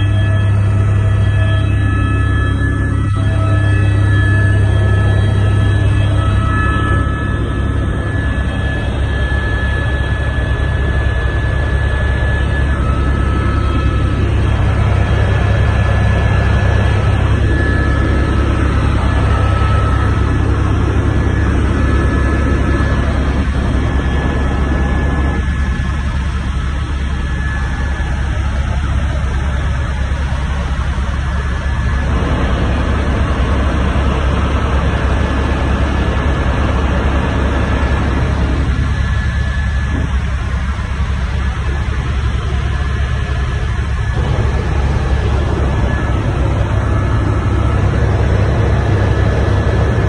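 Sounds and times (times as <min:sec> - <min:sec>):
helicopter rotor and engine drone: 0:00.0 - 0:50.0
high-pitched whine: 0:00.0 - 0:50.0.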